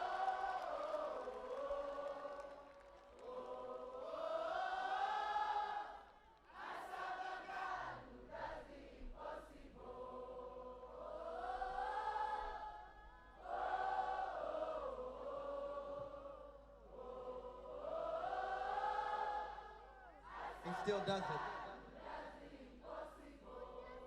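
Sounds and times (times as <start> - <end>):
crowd singing a cappella: 0.0 - 24.0.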